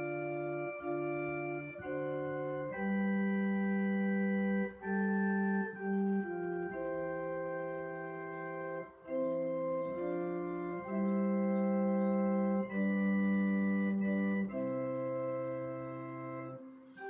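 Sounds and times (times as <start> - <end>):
organ playing held chords: 0.0 - 17.0.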